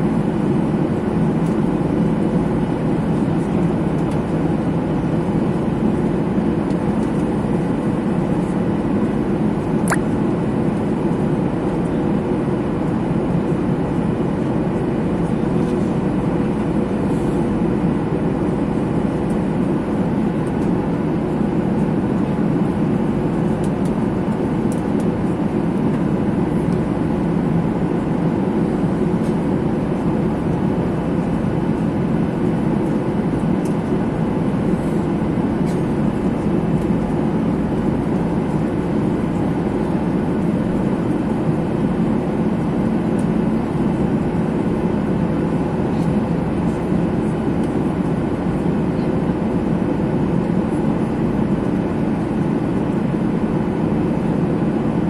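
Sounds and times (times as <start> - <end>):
airliner cabin noise: 0.0 - 55.0.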